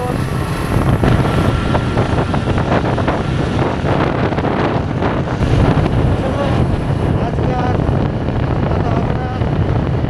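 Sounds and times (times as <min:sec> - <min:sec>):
motorcycle engine rumble: 0:00.0 - 0:10.0
road noise: 0:00.0 - 0:10.0
wind rushing over microphone: 0:00.0 - 0:10.0.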